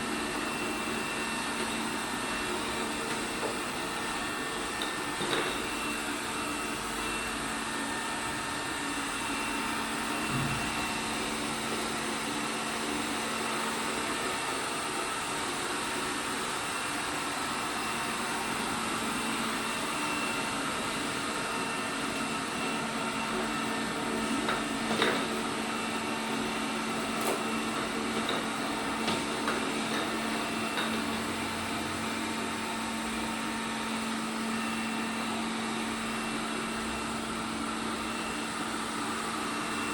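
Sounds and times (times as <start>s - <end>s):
robot vacuum humming: 0.0s - 39.9s.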